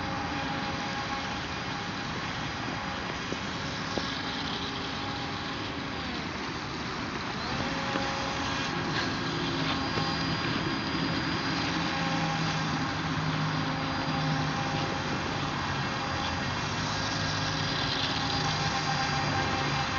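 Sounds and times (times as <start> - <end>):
constant hiss: 0.0 - 19.9
electric motor whine: 0.0 - 19.9.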